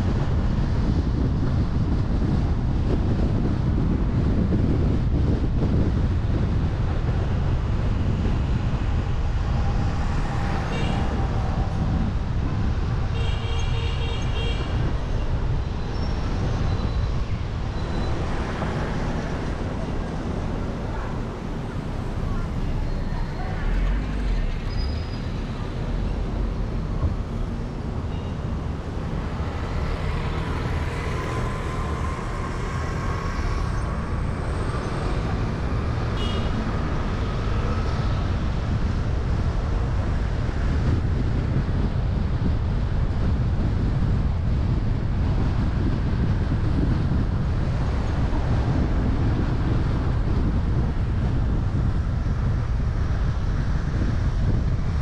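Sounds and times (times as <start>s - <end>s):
rumble of passing vehicles: 0.0s - 55.0s.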